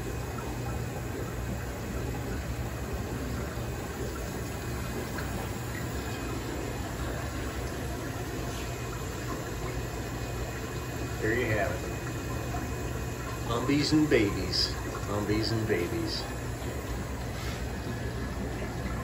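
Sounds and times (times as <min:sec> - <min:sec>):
aquarium water bubbling: 0:00.0 - 0:19.0
low steady hum: 0:00.0 - 0:19.0.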